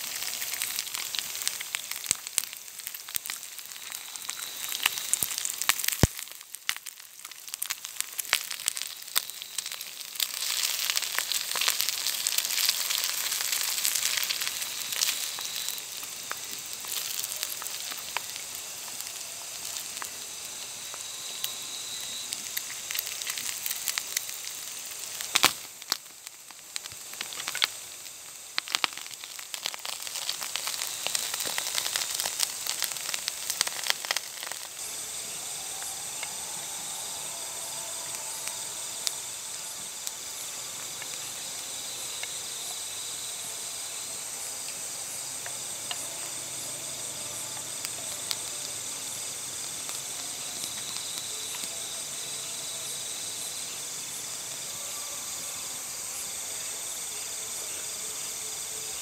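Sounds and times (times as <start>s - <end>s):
campfire crackling and popping: 0.0s - 54.8s
crickets and insects chirping: 0.0s - 59.0s.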